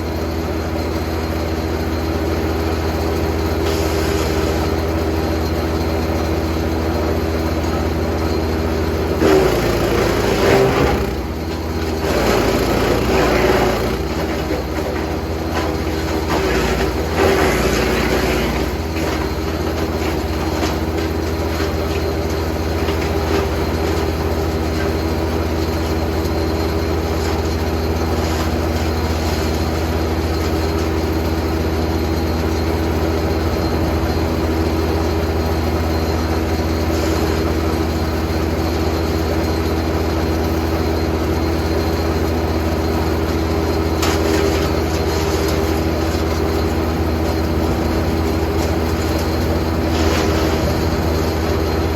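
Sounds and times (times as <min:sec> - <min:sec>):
wood chipper running: 0:00.0 - 0:51.9.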